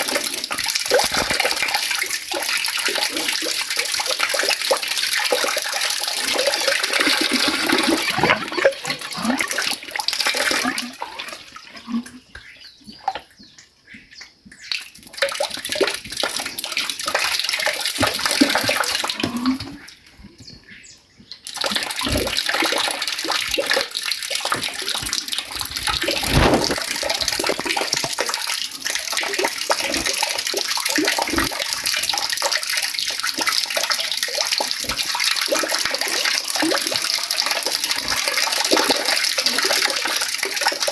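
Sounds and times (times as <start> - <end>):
water running and splashing: 0.0 - 11.8, 14.8 - 19.9, 21.5 - 40.9.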